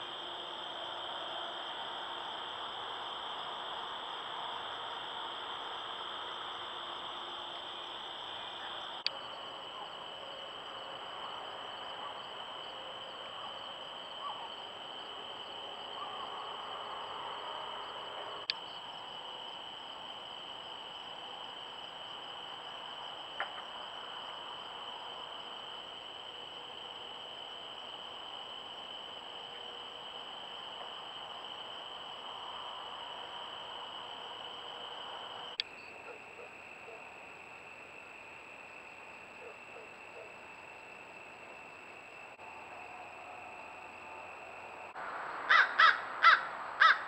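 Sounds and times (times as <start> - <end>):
crickets and insects chirping: 0.0 - 47.0.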